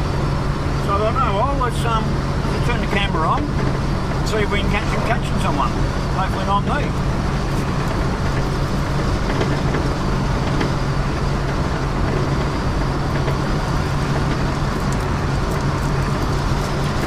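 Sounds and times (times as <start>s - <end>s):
car engine drone: 0.0s - 17.0s
tyre and road noise: 0.0s - 17.0s.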